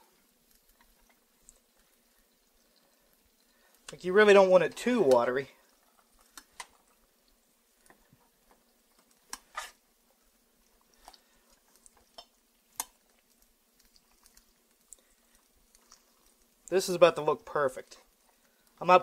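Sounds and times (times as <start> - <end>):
wet squelches of stirred sauce: 0.1 - 18.9.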